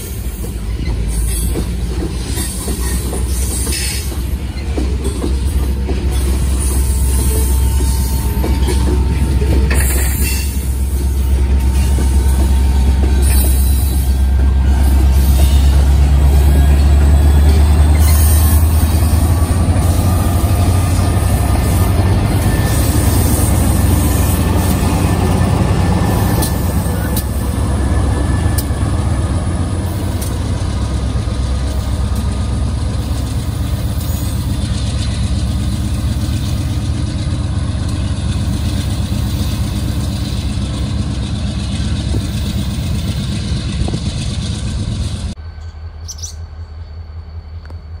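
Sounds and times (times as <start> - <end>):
diesel locomotive engine drone: 0.0 - 48.0.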